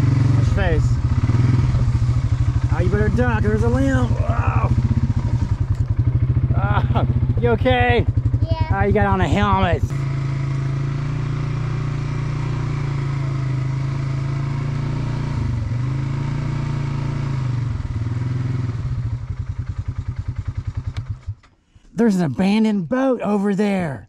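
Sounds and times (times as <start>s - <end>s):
atv engine running: 0.0s - 22.6s.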